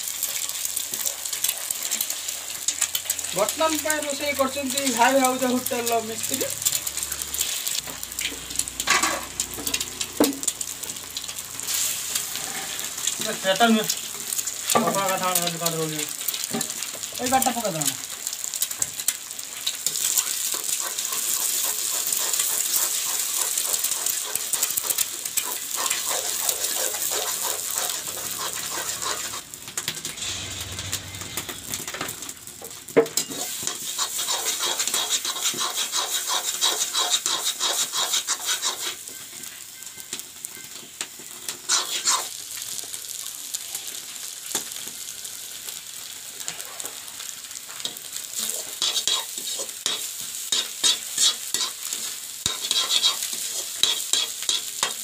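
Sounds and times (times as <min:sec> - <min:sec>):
eggs sizzling in hot oil: 0:00.0 - 0:55.0
metal spatula scraping wok: 0:00.2 - 0:15.4, 0:19.9 - 0:32.4, 0:33.1 - 0:42.4, 0:46.3 - 0:55.0.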